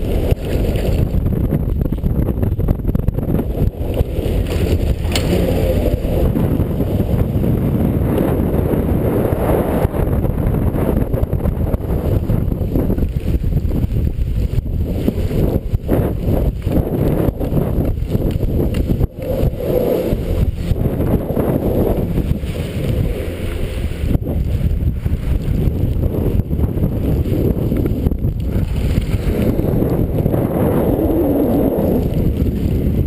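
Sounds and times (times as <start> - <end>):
skis sliding over snow: 0.0 - 33.0
wind buffeting microphone: 0.0 - 33.0.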